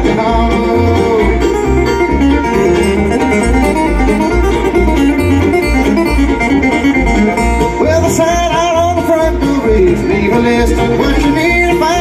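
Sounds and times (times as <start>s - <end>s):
bass notes: 0.0s - 12.0s
guitar: 0.0s - 12.0s
picked banjo: 0.0s - 12.0s.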